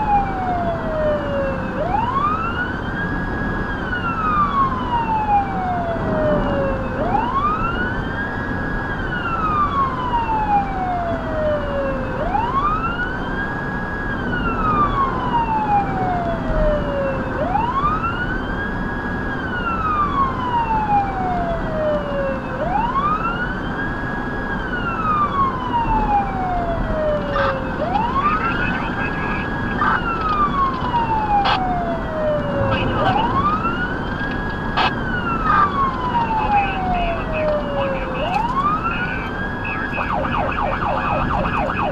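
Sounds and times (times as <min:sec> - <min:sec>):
electronic siren wailing: 0:00.0 - 0:18.6, 0:19.4 - 0:41.9
road noise: 0:00.0 - 0:41.9.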